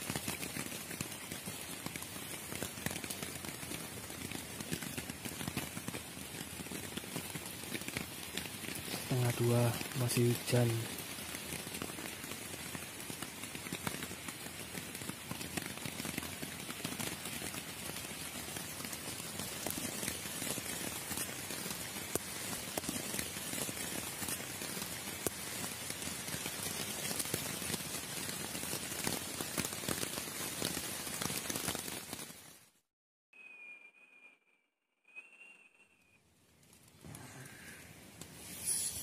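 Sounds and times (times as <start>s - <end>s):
steady rain falling: 0.0s - 32.8s, 36.4s - 39.0s.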